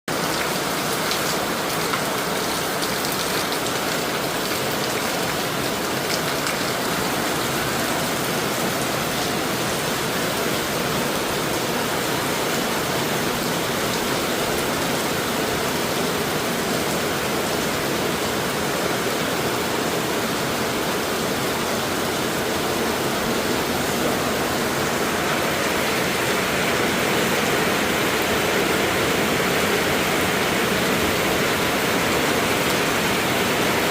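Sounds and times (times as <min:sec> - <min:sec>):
rain falling steadily: 0:00.1 - 0:33.9.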